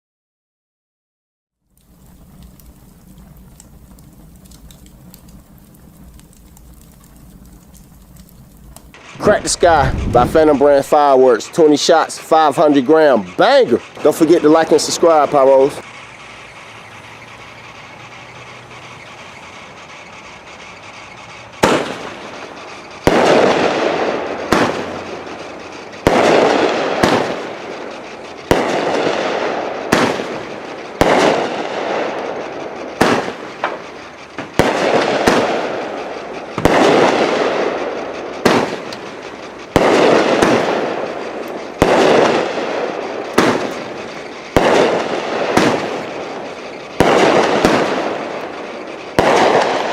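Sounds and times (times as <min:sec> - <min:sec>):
steady background noise: 0:01.7 - 0:49.9
fireworks bangs: 0:01.9 - 0:49.9.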